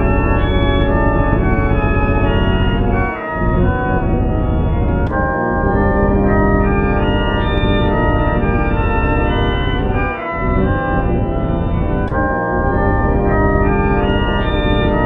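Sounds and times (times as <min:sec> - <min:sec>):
organ-like electronic chords: 0:00.0 - 0:15.0.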